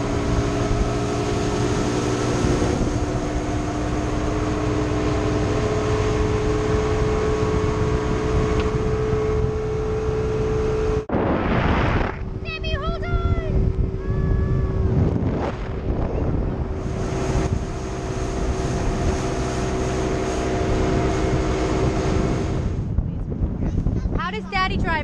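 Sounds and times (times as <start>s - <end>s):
motorboat engine humming: 0.0s - 25.0s
wind and water rushing: 0.0s - 25.0s.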